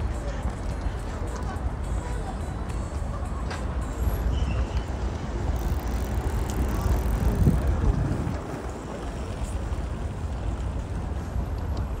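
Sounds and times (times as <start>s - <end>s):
low rumbling vehicle noise: 0.0s - 12.0s.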